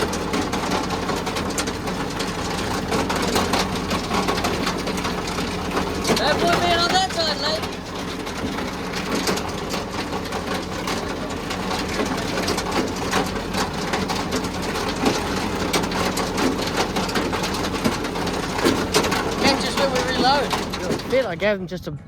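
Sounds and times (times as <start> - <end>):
dense crackling patter: 0.0 - 21.9
farm vehicle engine running: 0.0 - 22.0.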